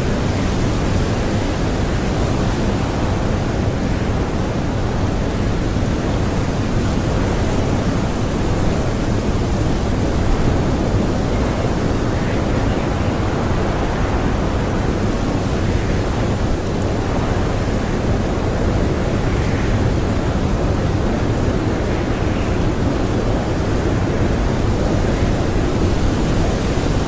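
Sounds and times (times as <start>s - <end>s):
blizzard wind blowing: 0.0s - 27.0s.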